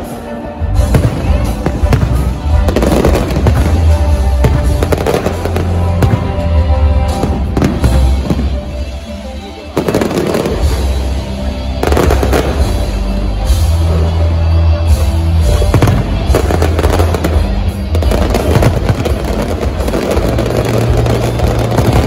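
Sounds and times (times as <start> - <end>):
music playing: 0.0 - 22.0
fireworks bursting: 0.8 - 9.0, 9.6 - 22.0.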